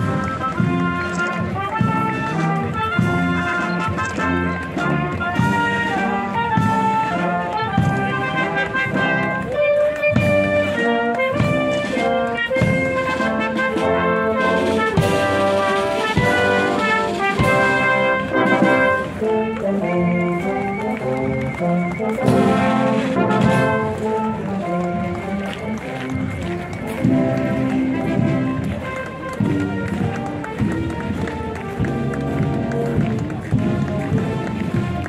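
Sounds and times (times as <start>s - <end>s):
brass band playing a march: 0.0s - 35.0s.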